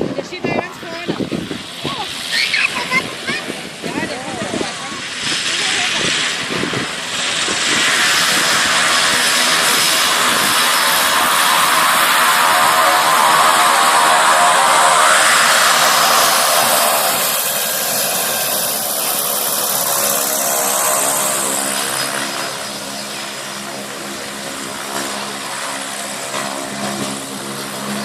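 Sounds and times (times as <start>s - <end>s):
propeller plane engine: 0.0s - 28.0s.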